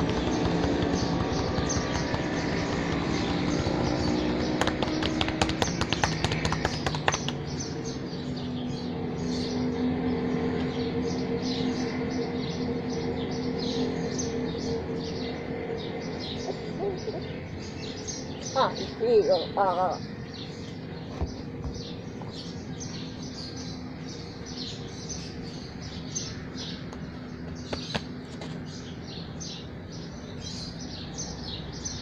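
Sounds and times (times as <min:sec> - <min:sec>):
birds chirping: 0:00.0 - 0:32.0
steady low hum: 0:00.0 - 0:32.0.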